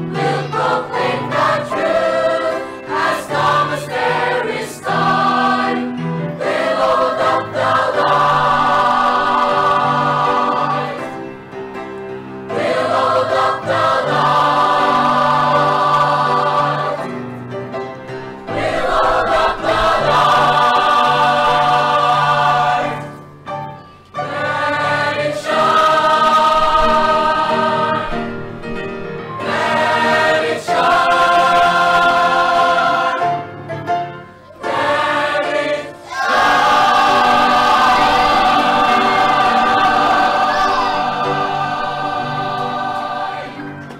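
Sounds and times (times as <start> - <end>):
choir singing gospel song: 0.0 - 17.5, 18.1 - 43.9
instrumental accompaniment: 0.0 - 43.9.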